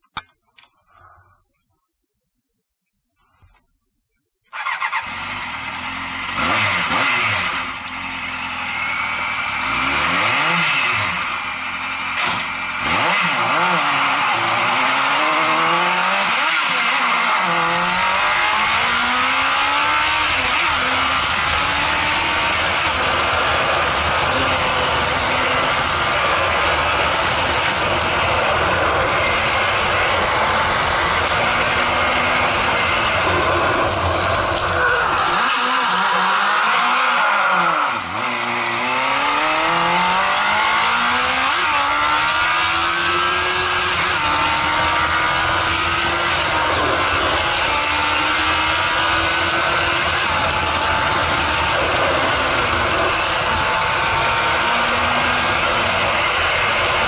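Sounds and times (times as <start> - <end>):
motorcycle engine revving and accelerating: 4.5 - 57.0
road and wind noise: 4.6 - 57.0.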